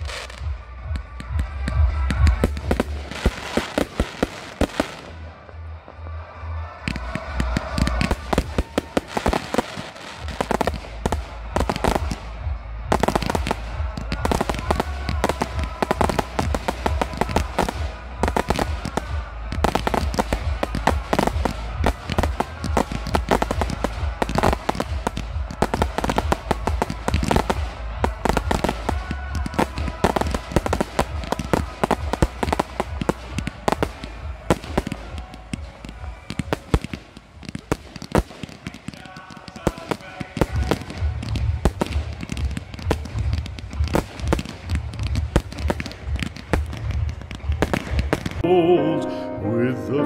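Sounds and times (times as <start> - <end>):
fireworks banging and crackling: 0.0 - 48.6.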